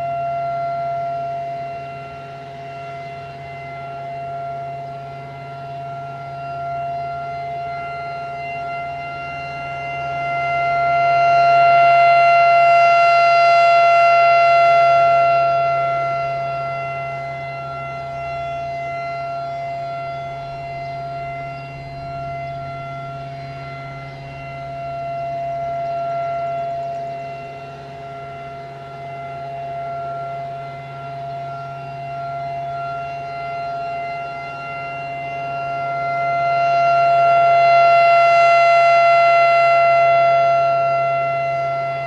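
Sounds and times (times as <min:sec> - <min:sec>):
rotating warning siren: 0:00.0 - 0:42.0.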